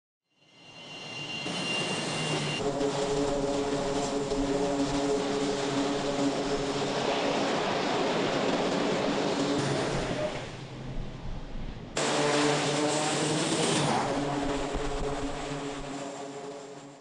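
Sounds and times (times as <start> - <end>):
high whine: 0.3 - 17.0
jet engines roaring: 0.7 - 17.0.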